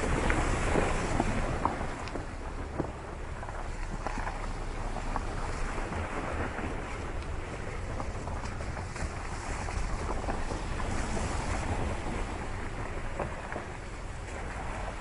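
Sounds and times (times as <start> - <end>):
vehicle rumbling on dirt track: 0.0 - 15.0
wind buffeting microphone: 0.0 - 15.0.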